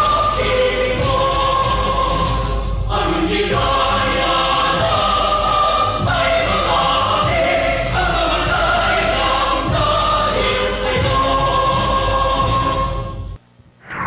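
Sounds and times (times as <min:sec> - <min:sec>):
choir singing held notes: 0:00.0 - 0:13.3.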